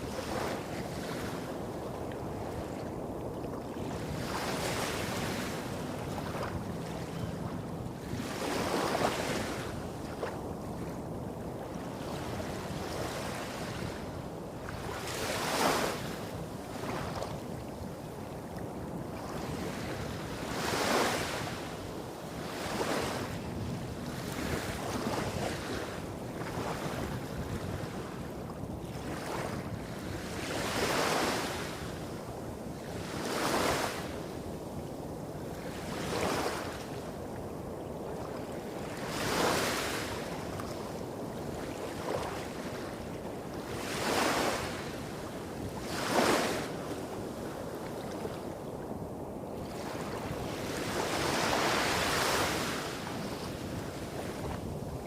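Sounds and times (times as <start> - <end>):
small waves washing up beach: 0.0 - 55.0.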